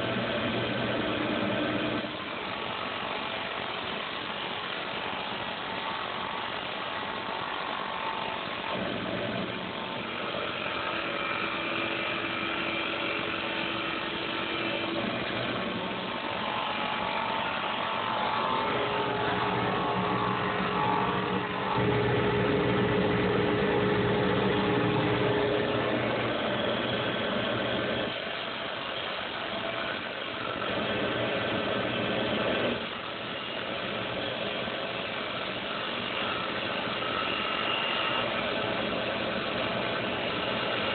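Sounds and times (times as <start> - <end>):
lathe motor humming: 0.0 - 40.9
lathe tool cutting tones: 0.0 - 40.9.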